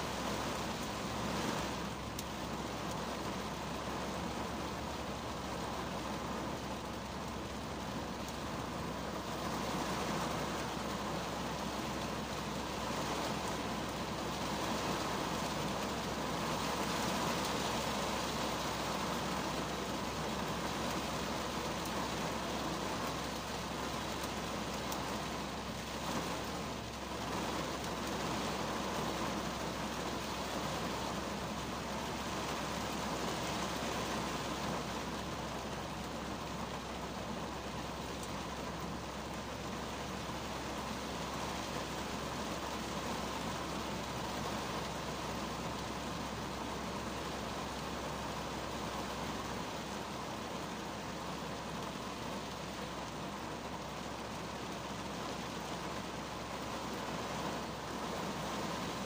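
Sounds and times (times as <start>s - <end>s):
rain on car roof: 0.0s - 59.0s.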